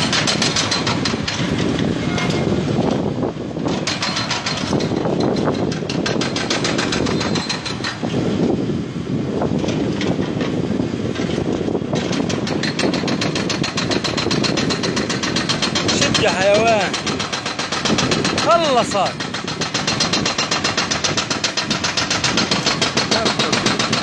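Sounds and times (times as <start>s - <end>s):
hydraulic breaker hammering concrete: 0.0s - 8.1s, 9.5s - 24.0s.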